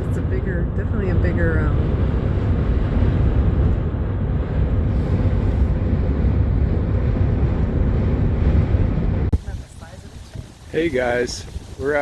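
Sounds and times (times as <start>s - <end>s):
car road noise: 0.0s - 12.0s
wind noise: 0.0s - 12.0s.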